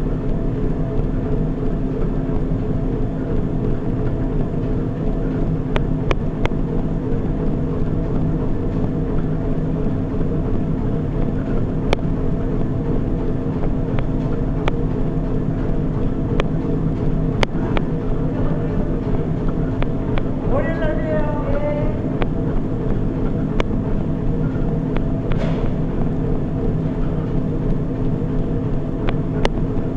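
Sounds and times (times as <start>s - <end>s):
treadmill motor and belt hum: 0.0s - 29.9s.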